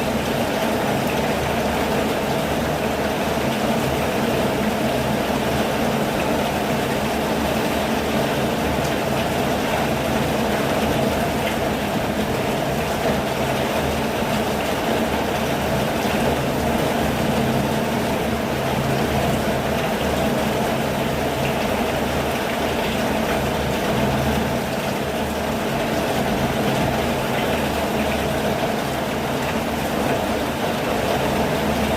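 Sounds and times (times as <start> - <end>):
steady rain hiss: 0.0 - 31.9.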